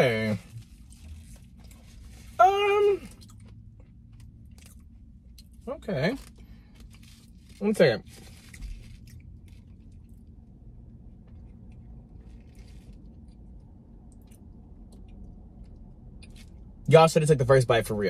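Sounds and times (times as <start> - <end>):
low steady hum: 0.0 - 18.0
person chewing: 0.4 - 10.4, 11.2 - 16.7.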